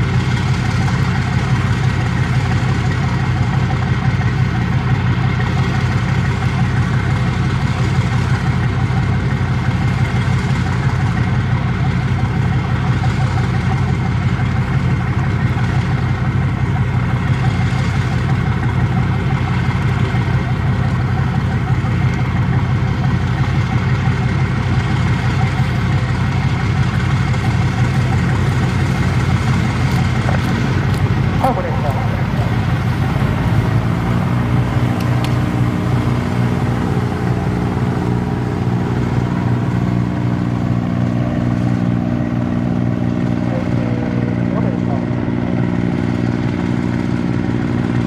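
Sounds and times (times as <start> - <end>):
diesel boat engines humming: 0.0 - 48.0.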